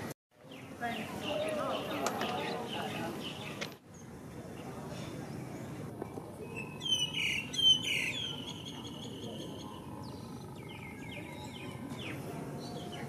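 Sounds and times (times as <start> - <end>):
low background noise: 0.0 - 13.0
birds chirping: 0.4 - 13.0.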